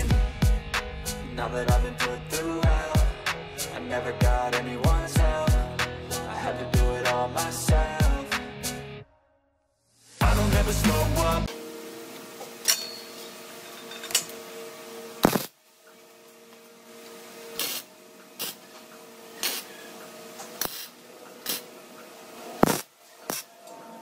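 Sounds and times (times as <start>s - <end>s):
steady machine hum: 0.0s - 7.0s, 10.2s - 24.0s.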